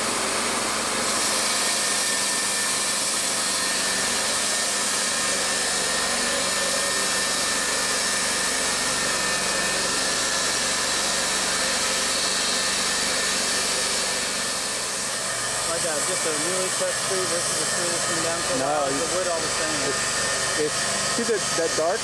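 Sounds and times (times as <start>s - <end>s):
band blade sawing log: 0.0s - 22.0s
bandsaw mill engine under load: 0.0s - 22.0s.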